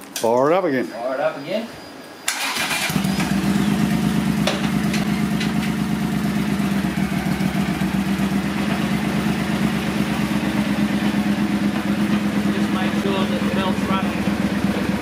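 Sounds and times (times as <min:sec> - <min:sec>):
motorcycle engine idling: 0:02.4 - 0:15.0.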